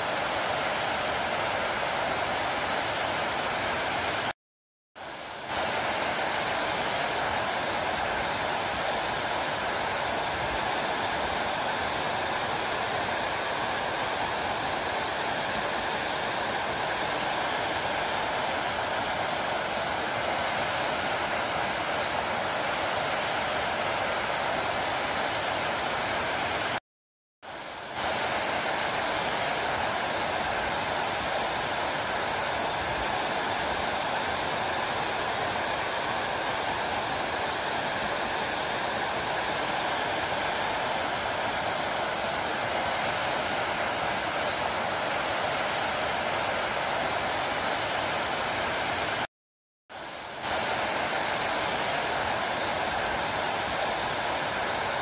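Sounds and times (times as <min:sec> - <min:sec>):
waterfall rushing: 0:00.0 - 0:04.3, 0:05.1 - 0:26.8, 0:27.5 - 0:49.3, 0:50.0 - 0:55.0.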